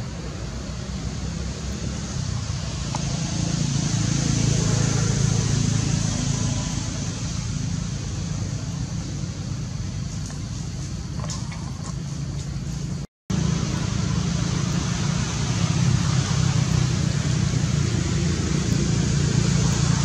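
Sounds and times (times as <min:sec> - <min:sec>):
distant vehicle rumble: 0:00.0 - 0:20.0
steady high hiss: 0:00.0 - 0:20.0.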